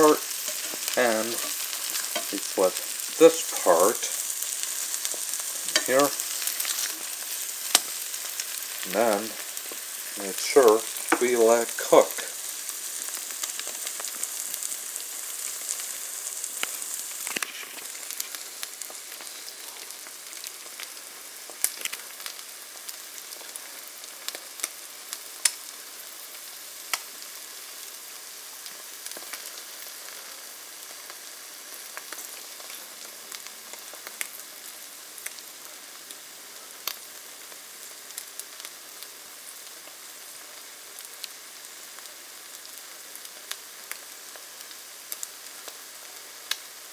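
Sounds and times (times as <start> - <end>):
bread frying in butter: 0.0 - 46.9.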